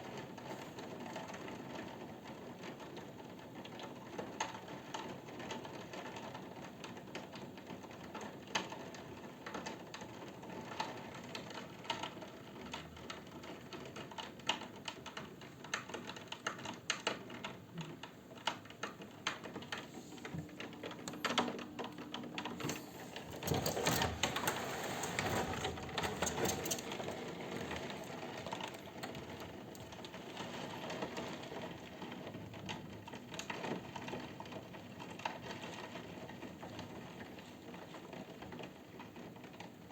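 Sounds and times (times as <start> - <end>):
rain tapping on hard surface: 0.0 - 39.9.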